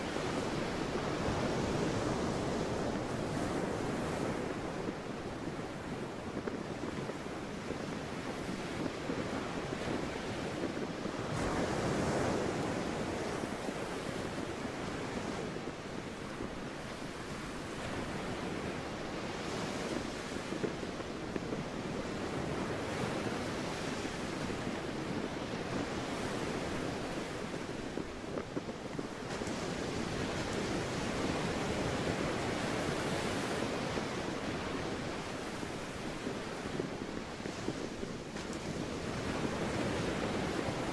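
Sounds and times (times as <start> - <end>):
sea waves washing in: 0.0 - 40.9
wind gusting on microphone: 0.0 - 40.9.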